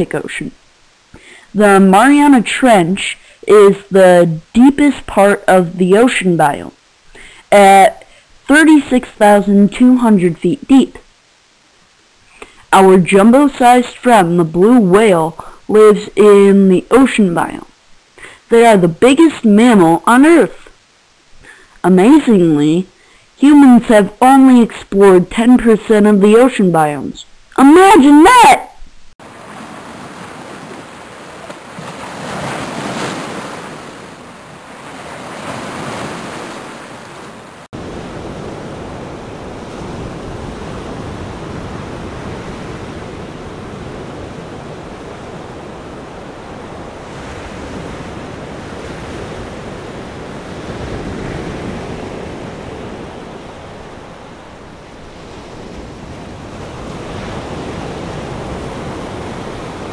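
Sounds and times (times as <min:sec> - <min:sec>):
ocean waves washing in: 0:00.0 - 0:11.4, 0:12.6 - 0:59.9.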